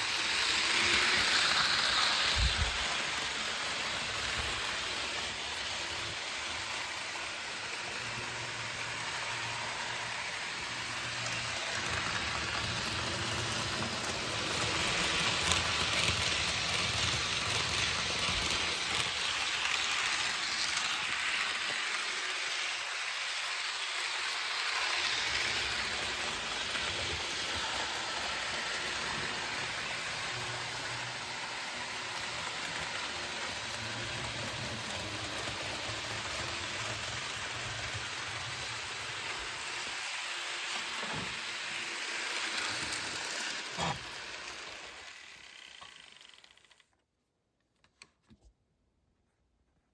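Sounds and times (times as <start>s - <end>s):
model train wheels rattling: 0.0s - 46.9s.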